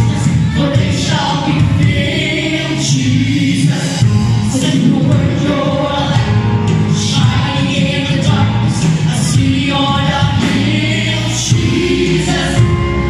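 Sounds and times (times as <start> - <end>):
choir singing gospel song: 0.0 - 13.0
live band accompaniment: 0.0 - 13.0.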